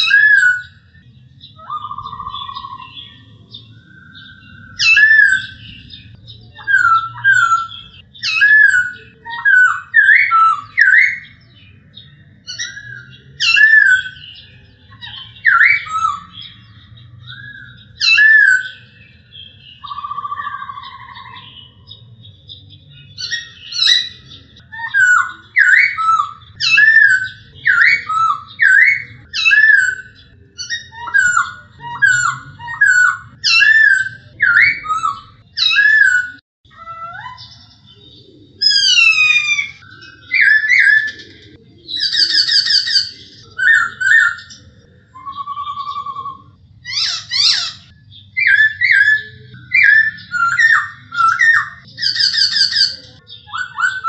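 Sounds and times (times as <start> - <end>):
bird whistling song: 0.0 - 54.0.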